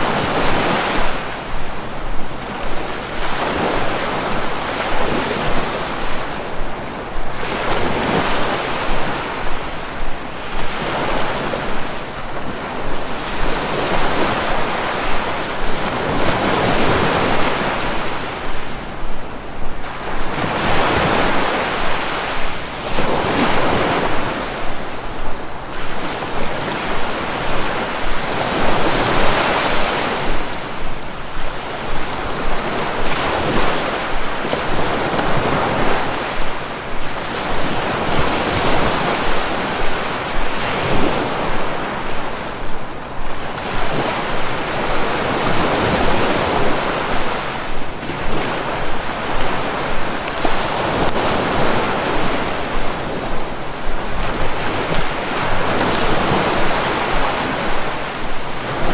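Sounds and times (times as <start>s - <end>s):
sea waves breaking: 0.0s - 58.9s.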